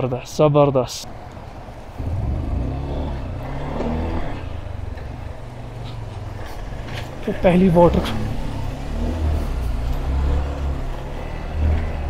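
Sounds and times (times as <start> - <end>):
motorcycle engine revving: 2.0 - 12.0.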